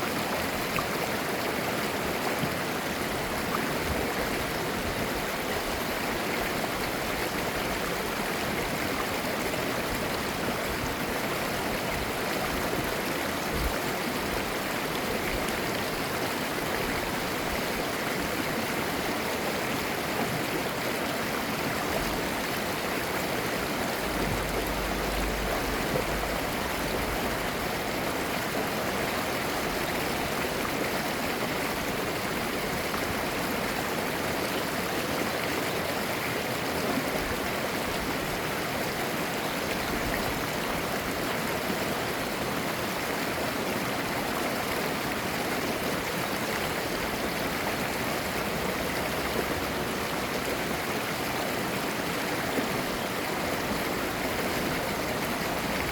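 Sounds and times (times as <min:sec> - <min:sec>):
stream babbling over rocks: 0:00.0 - 0:55.9.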